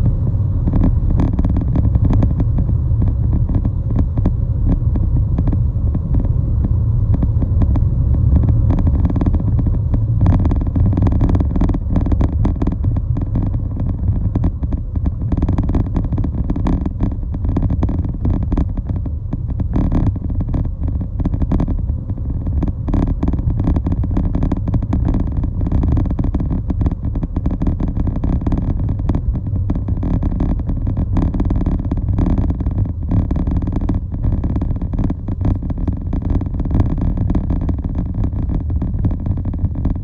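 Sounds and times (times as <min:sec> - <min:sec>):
vehicle rumbling on road: 0:00.0 - 0:40.0.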